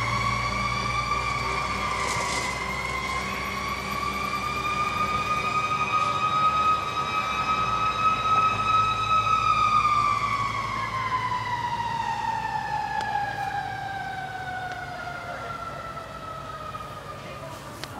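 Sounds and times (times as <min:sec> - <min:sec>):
fire engine siren: 0:00.0 - 0:17.9.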